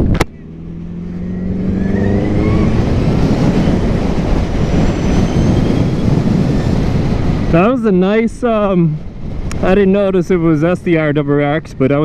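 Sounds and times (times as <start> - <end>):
wind and road rush: 0.0 - 12.0.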